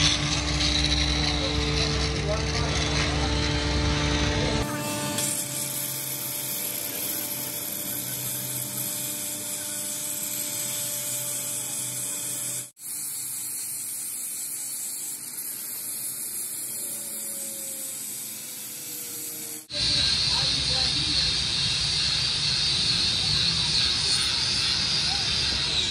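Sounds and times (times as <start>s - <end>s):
power tool whirring: 0.0s - 25.9s.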